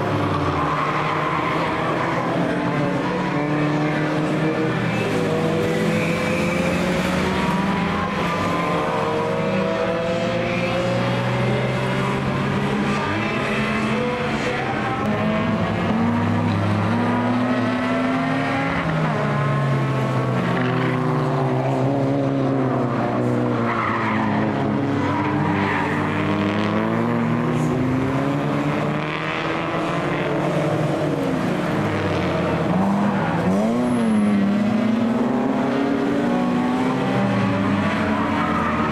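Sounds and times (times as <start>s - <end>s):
racing car engines passing: 0.0s - 38.9s.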